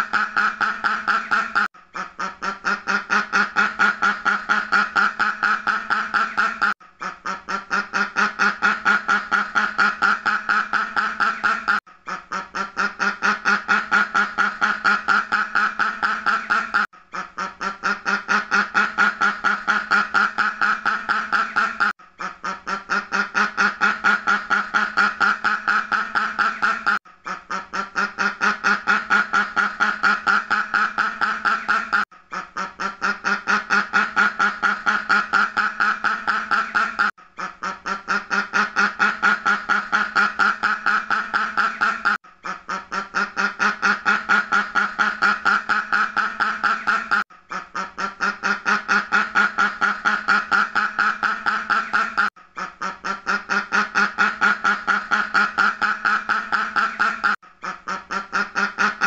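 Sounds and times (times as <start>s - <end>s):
duck quacking: 0.0s - 59.0s.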